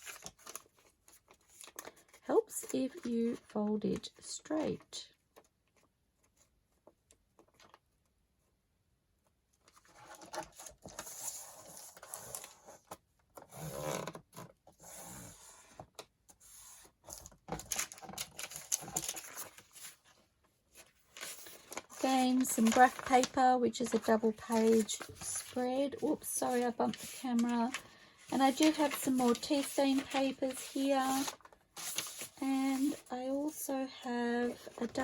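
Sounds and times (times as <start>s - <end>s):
paper rustling and folding: 0.0s - 8.4s, 9.2s - 35.0s.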